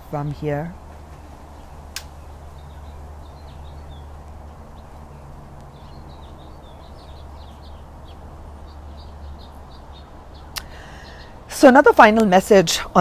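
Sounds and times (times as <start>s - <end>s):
hummingbirds chirping: 0.0s - 13.0s
steady low hum: 0.0s - 13.0s.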